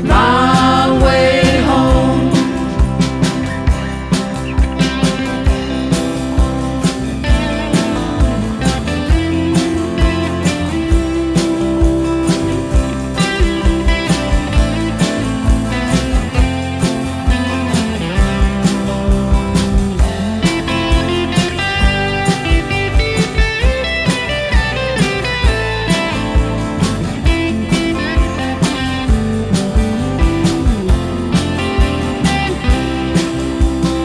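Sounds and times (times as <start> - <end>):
bass: 0.0 - 34.0
lead guitar with sliding notes: 0.0 - 34.0
steady drum beat: 0.0 - 34.0.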